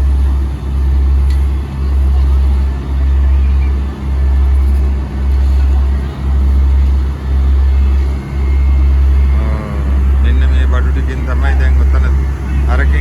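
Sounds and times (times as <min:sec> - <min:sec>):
paving machinery pulsing rumble: 0:00.0 - 0:13.0.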